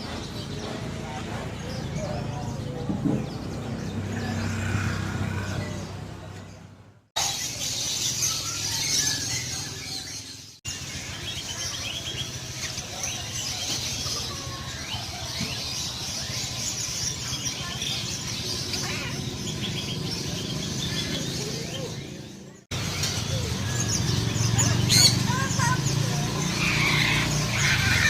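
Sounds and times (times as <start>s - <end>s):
caged birds chirping: 0.0s - 28.0s
market background noise: 0.0s - 28.0s.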